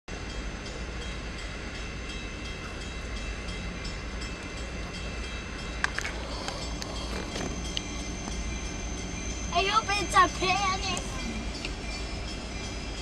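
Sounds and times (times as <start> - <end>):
freight train rumbling: 0.1 - 13.0
faint high steady tones: 0.2 - 13.0.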